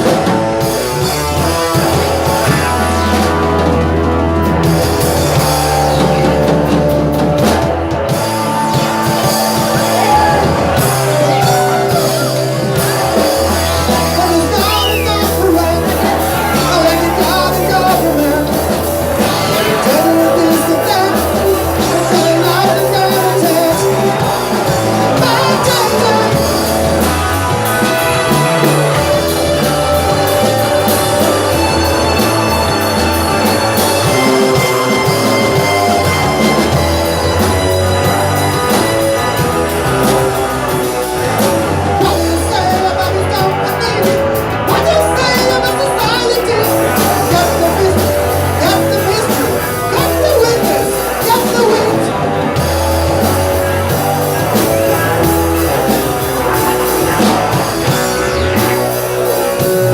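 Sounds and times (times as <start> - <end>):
bass guitar: 0.0 - 59.9
drum kit: 0.0 - 59.9
electric guitar lead: 0.0 - 59.9.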